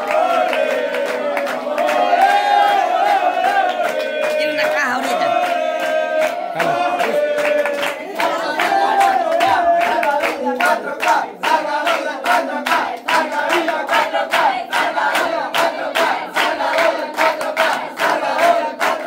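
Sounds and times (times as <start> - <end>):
crowd chanting: 0.0 - 19.0
rhythmic hand clapping: 0.0 - 19.0.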